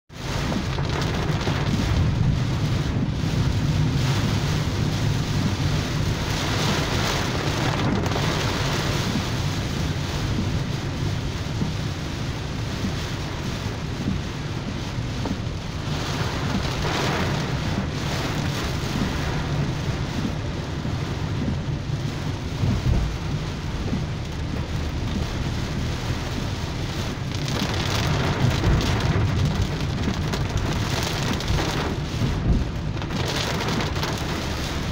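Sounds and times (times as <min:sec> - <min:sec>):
car rumble on wet road: 0:00.1 - 0:34.9
heavy rain on car roof: 0:00.1 - 0:34.9.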